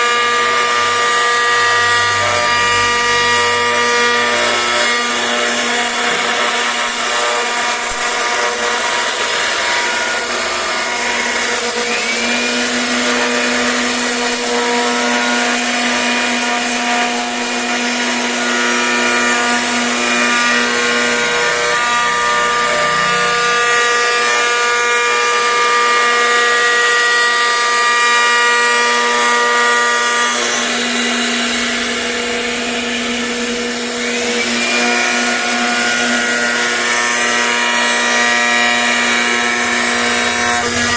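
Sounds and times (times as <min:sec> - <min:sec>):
cnc router spindle whining: 0:00.0 - 0:40.9.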